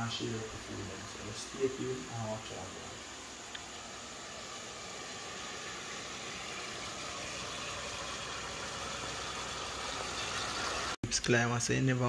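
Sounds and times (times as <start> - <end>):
pot simmering hiss: 0.0 - 11.9.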